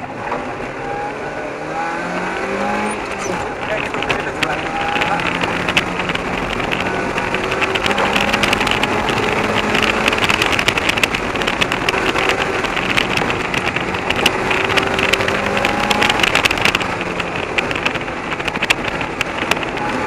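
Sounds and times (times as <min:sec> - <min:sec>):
car engine accelerating: 0:00.0 - 0:20.0
wind buffeting microphone: 0:02.0 - 0:20.0.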